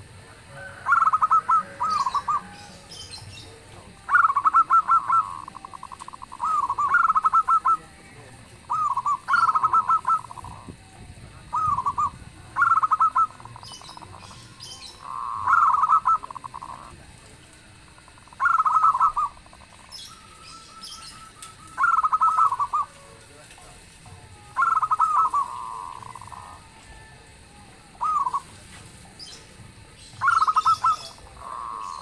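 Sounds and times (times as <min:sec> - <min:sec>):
dove cooing: 0:00.0 - 0:32.0.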